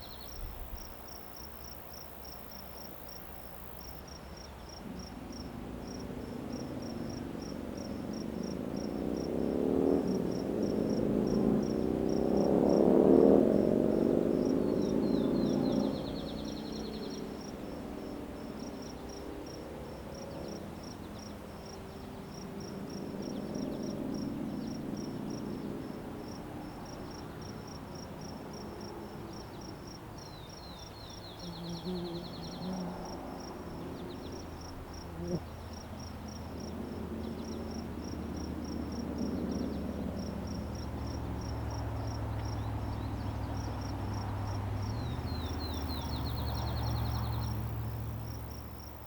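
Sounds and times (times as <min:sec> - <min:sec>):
crickets chirping: 0:00.0 - 0:49.0
passing engine hum: 0:04.8 - 0:30.1, 0:30.7 - 0:49.0.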